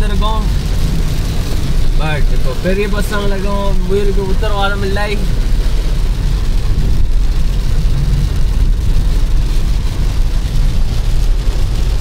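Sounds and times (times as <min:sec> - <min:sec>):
deep rumble: 0:00.0 - 0:12.0
rain on car body: 0:00.0 - 0:12.0
tyres hissing on wet road: 0:00.0 - 0:12.0.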